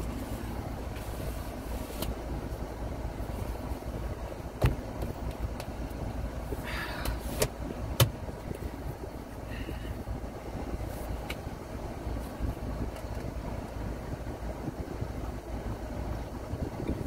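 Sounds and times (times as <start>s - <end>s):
low rumble in car cabin: 0.0s - 17.0s.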